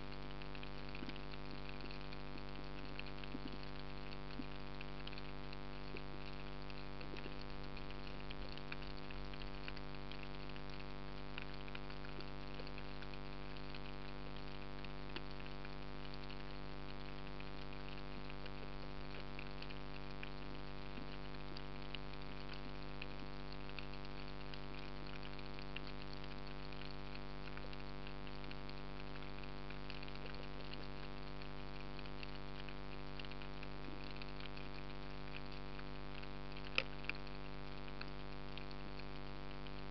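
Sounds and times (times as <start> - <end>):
fine crackle of tiny clicks: 0.0 - 39.9
steady multi-tone hum: 0.0 - 39.9.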